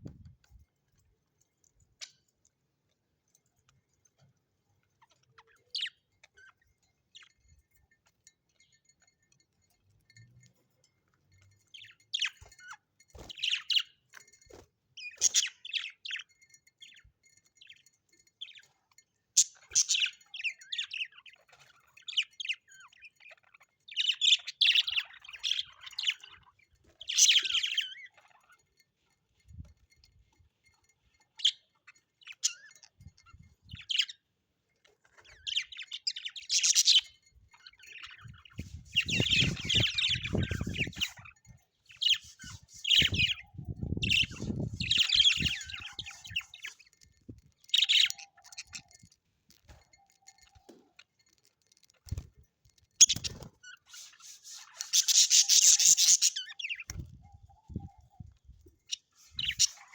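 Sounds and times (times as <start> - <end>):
small parrots chirping: 2.0 - 2.3, 4.9 - 9.8, 11.5 - 28.9, 30.6 - 59.9.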